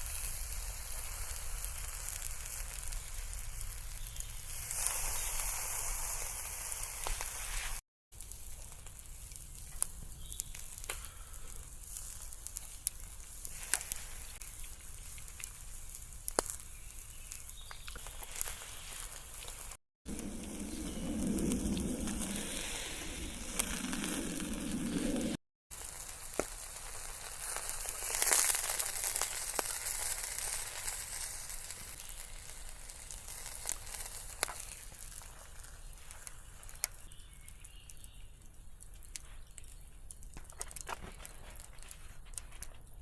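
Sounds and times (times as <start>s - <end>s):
fire popping: 0.0s - 43.0s
wood fire sizzling: 0.0s - 43.0s.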